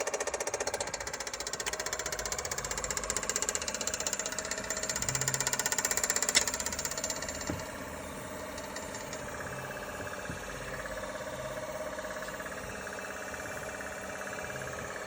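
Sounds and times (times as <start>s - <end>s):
car engine ticking: 0.0s - 15.0s.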